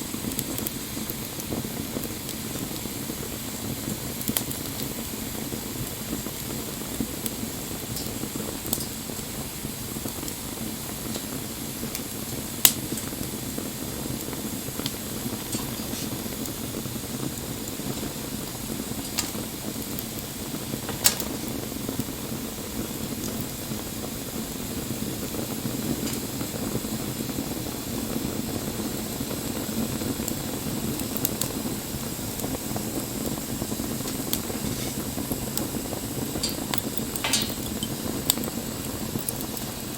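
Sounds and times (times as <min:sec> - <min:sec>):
sharp fire pops: 0:00.0 - 0:39.9
wood fire hissing and crackling: 0:00.0 - 0:39.9.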